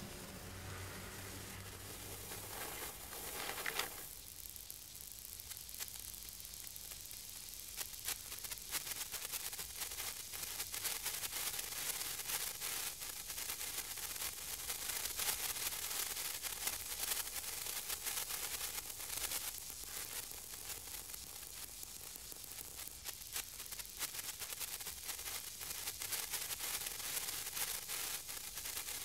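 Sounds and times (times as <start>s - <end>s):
sparkler sizzling and crackling: 0.0s - 29.0s.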